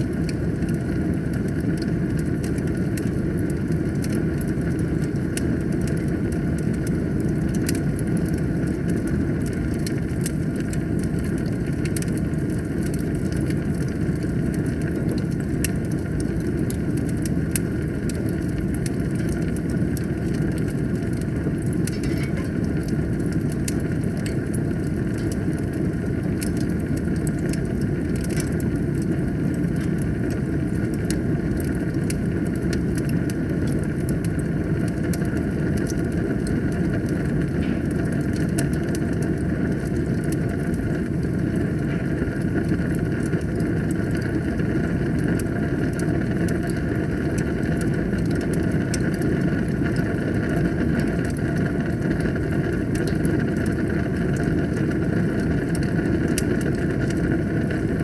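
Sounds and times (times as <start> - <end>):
fire crackling and popping: 0.0 - 58.0
fire flames rushing: 0.0 - 58.0.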